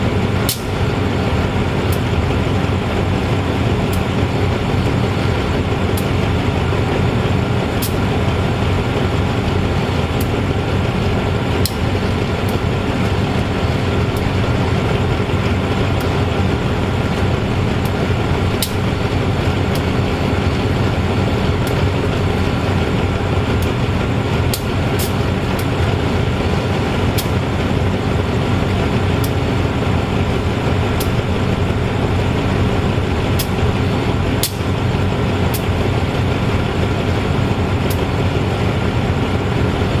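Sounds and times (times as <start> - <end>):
diesel locomotive idling: 0.0 - 40.0.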